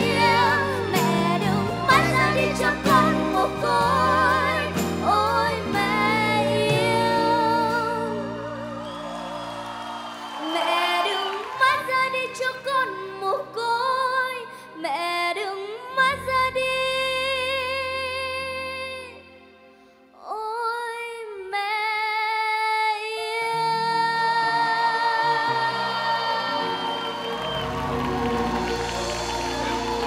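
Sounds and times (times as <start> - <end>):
girl singing a ballad: 0.0 - 8.9, 10.4 - 27.3.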